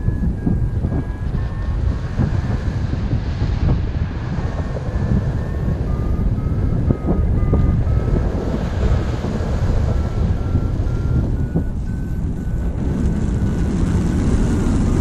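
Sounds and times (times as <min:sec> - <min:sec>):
faint rising whine: 0:00.0 - 0:15.0
jet turbine engine rumble: 0:00.0 - 0:15.0
wind noise on microphone: 0:00.0 - 0:15.0.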